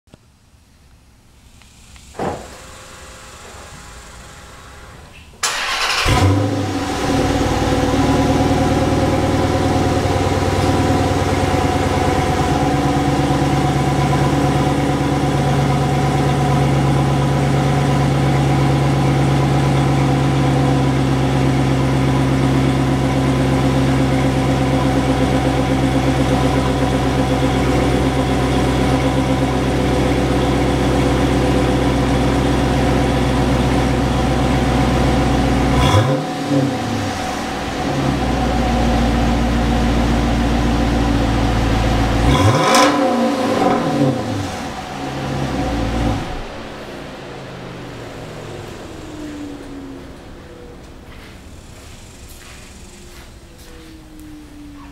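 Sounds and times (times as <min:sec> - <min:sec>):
car engine starting and idling: 0:00.2 - 0:54.9.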